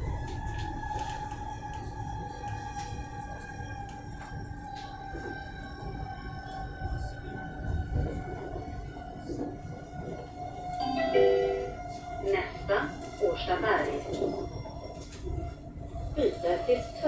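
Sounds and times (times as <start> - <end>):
electric traction motor whine: 0.0 - 16.8.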